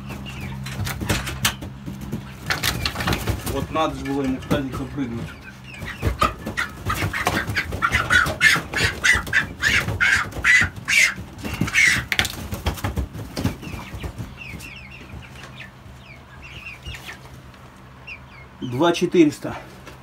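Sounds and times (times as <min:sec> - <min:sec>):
wings flapping and scuffling: 0:00.0 - 0:18.0
chickens clucking and peeping: 0:00.0 - 0:20.0
chickens squawking: 0:00.0 - 0:20.0.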